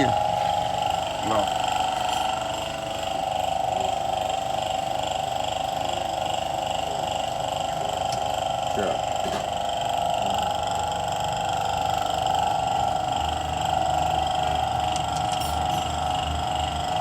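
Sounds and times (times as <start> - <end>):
car engine running: 0.0 - 4.8, 6.3 - 17.0.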